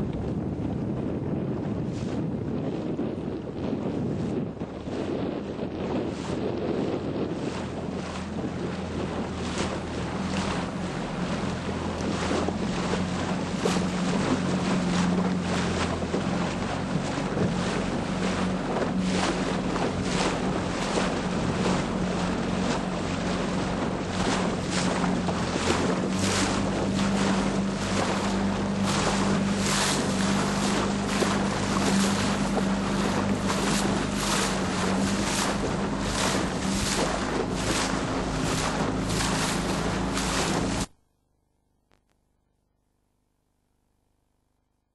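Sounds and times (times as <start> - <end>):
wind buffeting microphone: 0.0 - 40.9
water rushing past hull: 0.0 - 41.0
steady low hum: 3.4 - 44.8.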